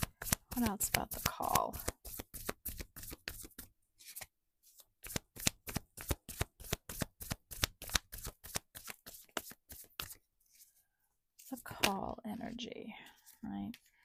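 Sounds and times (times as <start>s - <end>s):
cards being shuffled: 0.0s - 10.7s, 11.4s - 12.5s.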